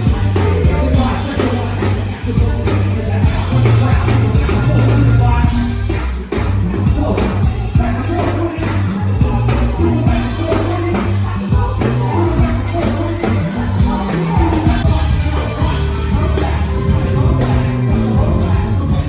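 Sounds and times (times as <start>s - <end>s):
drum kit: 0.0s - 19.0s
heavy bass line: 0.0s - 19.0s
voices singing: 0.0s - 19.0s.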